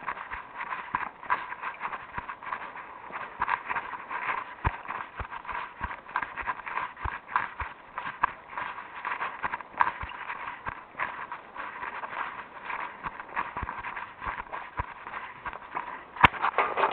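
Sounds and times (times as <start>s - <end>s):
footsteps on hard surface: 0.0s - 16.9s.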